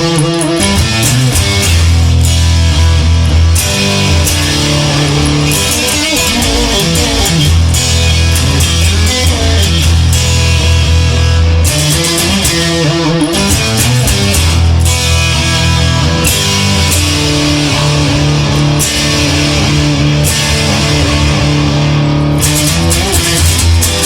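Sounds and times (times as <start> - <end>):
distorted electric guitar: 0.0 - 24.0
drums: 0.0 - 24.0
bass line: 0.6 - 24.0.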